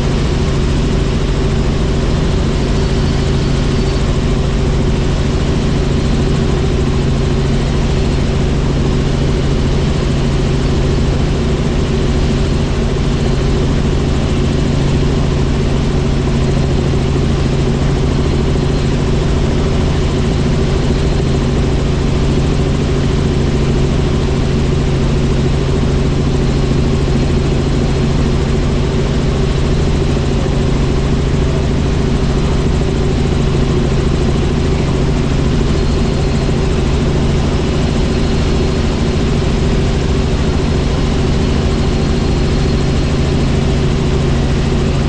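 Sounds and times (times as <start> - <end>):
helicopter flying: 0.0 - 45.0.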